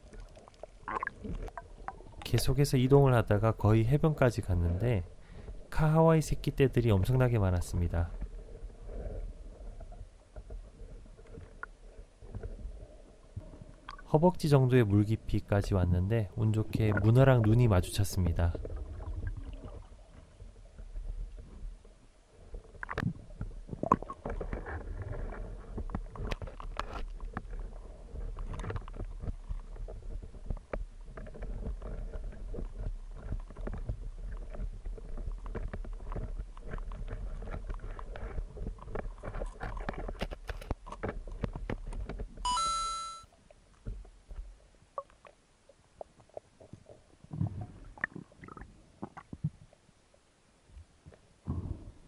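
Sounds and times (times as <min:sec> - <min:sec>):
underwater rumble of moving water: 0:00.0 - 0:42.4, 0:43.4 - 0:52.0
clicks and knocks underwater: 0:00.0 - 0:42.5, 0:43.4 - 0:52.0.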